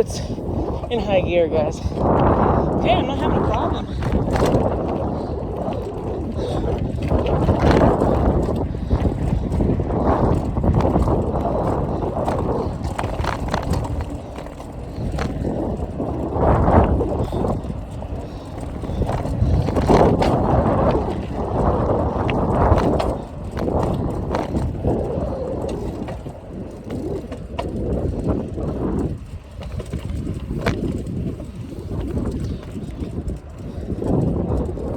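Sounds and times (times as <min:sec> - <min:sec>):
bike tyre and drivetrain noise: 0:00.0 - 0:34.9
wind buffeting microphone: 0:00.0 - 0:34.9.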